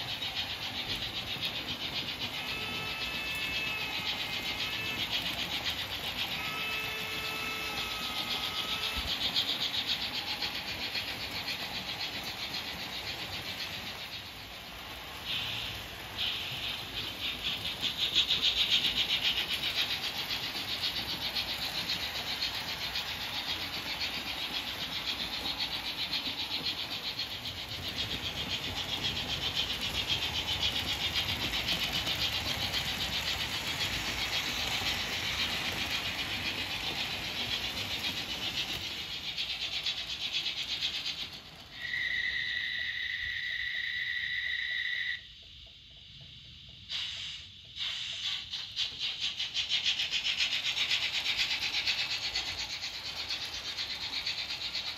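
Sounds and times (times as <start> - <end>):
model train wheels rattling: 0.0 - 43.3, 46.4 - 54.9.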